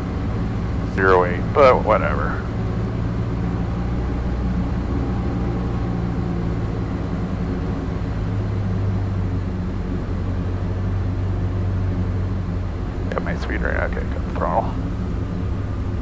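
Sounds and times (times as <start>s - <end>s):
small plane engine droning: 0.0s - 16.0s.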